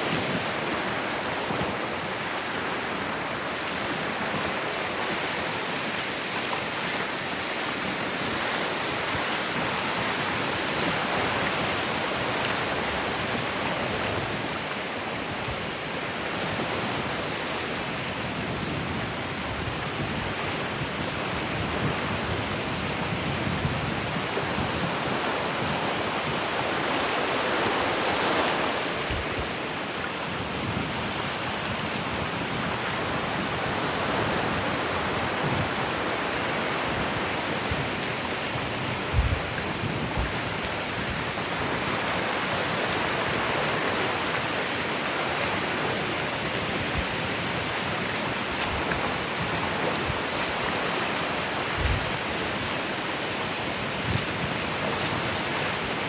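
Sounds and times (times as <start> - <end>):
ocean waves washing onto beach: 0.0 - 56.0.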